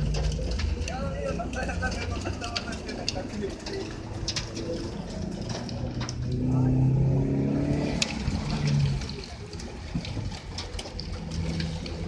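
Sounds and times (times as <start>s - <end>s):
car engine accelerating: 0.0s - 10.2s.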